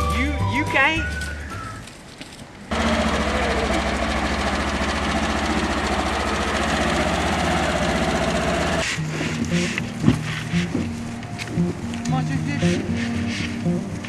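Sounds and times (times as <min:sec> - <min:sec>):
engine running: 0:02.7 - 0:14.0.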